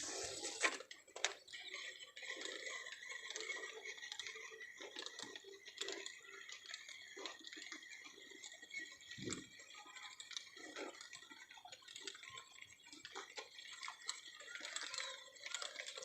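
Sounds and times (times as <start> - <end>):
faint ticking and clicking: 0.8 - 16.0.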